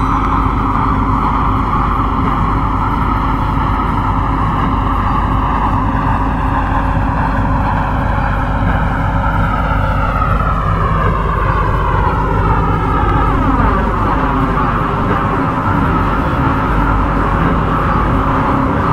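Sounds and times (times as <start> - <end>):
faint motor whine: 0.0 - 18.9
train wheels rumbling on rail: 0.0 - 18.9.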